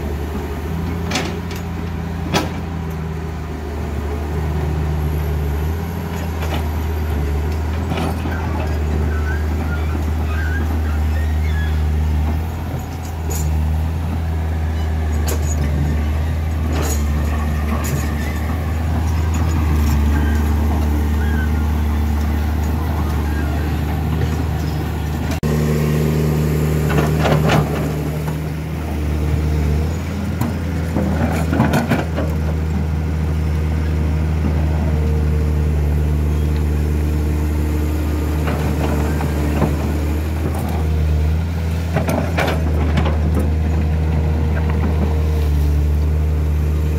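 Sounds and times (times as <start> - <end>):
heavy truck diesel engines labouring: 0.0 - 46.9.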